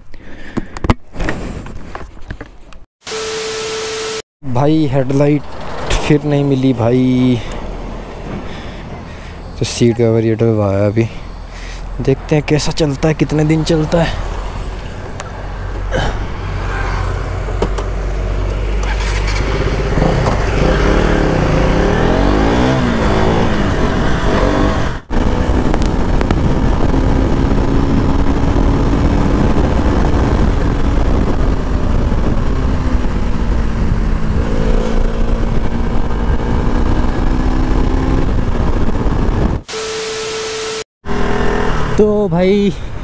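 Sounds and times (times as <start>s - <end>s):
motorcycle engine on the road: 3.1s - 43.0s
low wind rumble: 4.4s - 39.7s.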